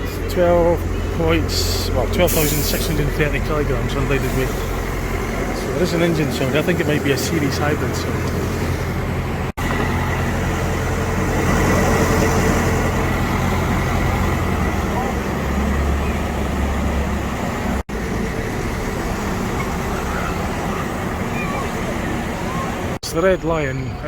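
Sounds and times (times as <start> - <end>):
bus diesel engine humming: 0.0 - 24.0
street traffic: 0.0 - 24.0.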